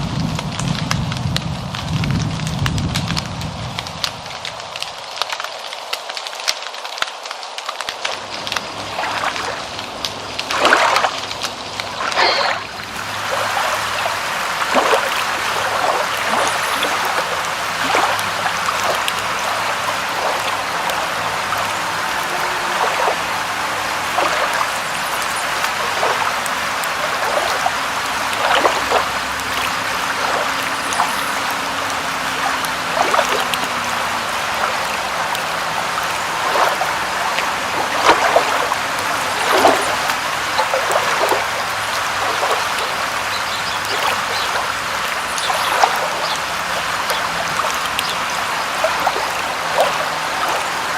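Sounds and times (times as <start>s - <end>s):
rain falling: 0.0s - 50.9s
water drops splashing: 8.0s - 50.9s.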